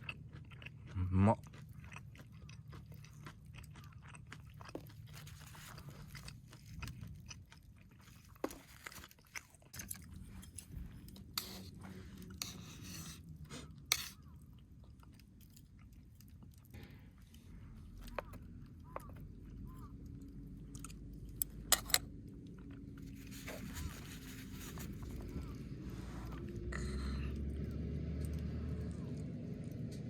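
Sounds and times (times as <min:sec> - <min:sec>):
person chewing crispy chicken: 0:00.0 - 0:30.0.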